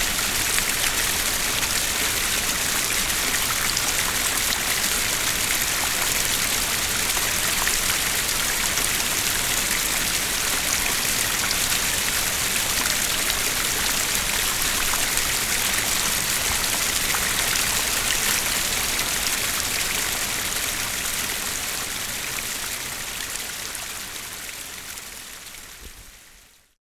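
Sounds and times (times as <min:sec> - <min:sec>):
small water streams flowing: 0:00.0 - 0:26.8.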